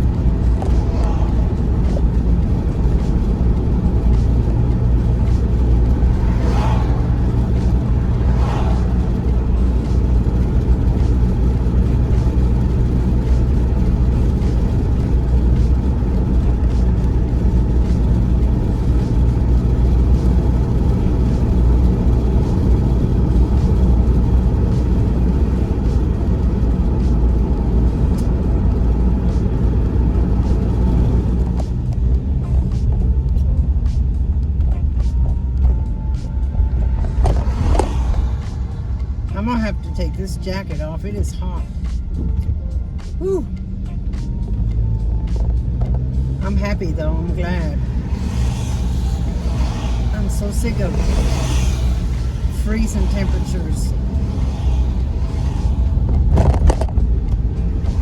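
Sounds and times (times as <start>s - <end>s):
car road noise from inside: 0.0s - 58.0s.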